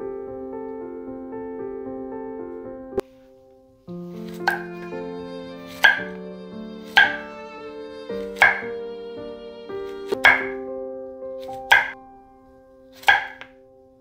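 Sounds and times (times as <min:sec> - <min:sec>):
soft music: 0:00.0 - 0:14.0.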